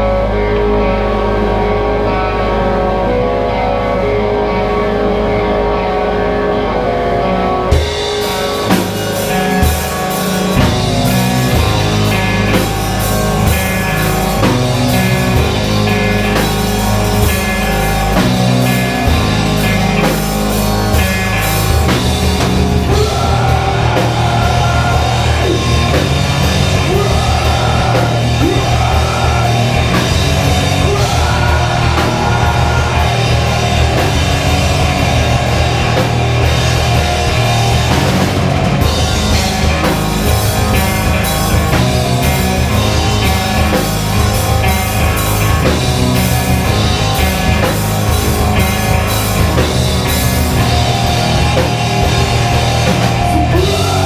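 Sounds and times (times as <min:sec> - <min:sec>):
bass: 0:00.0 - 0:54.0
distorted guitars: 0:00.0 - 0:54.0
drum kit: 0:07.6 - 0:54.0.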